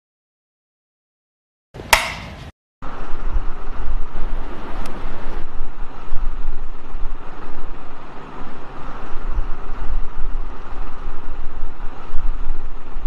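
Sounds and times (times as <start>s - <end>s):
fan air buffeting microphone: 1.8s - 13.0s.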